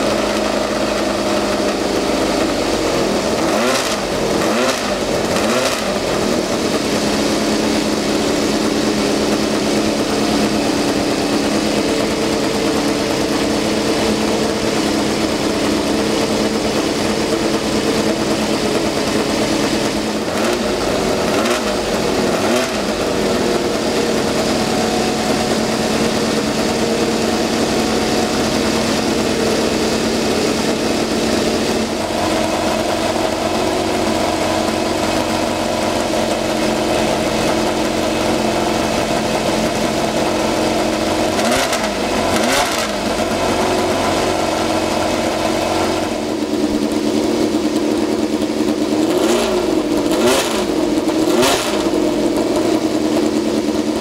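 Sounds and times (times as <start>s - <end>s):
engine throttle blips: 0.0s - 54.0s
racing engine idling: 0.0s - 54.0s.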